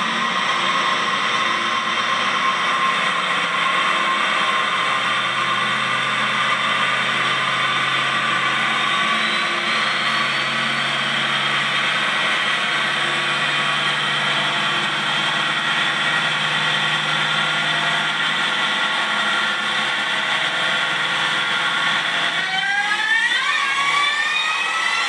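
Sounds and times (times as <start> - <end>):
supercharged engine revving: 0.0 - 25.0.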